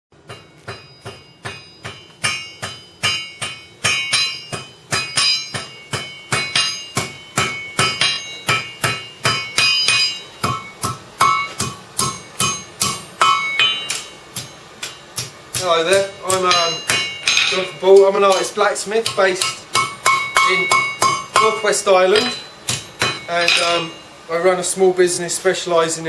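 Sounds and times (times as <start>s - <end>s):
hammer ringing on anvil: 0.2s - 24.5s.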